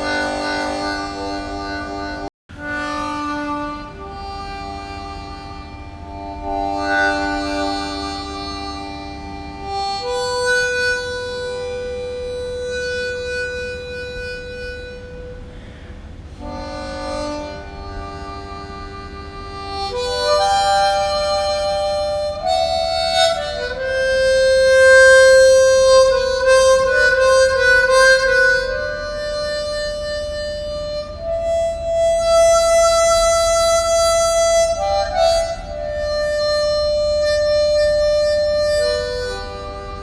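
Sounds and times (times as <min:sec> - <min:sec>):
harmonica slow melody: 0:00.0 - 0:40.0.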